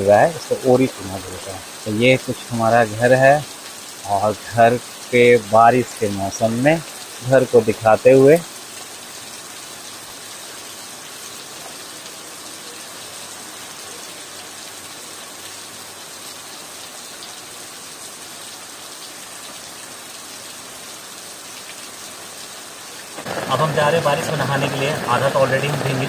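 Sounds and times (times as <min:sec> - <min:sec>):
rain on ground and tile roof: 0:00.0 - 0:26.0.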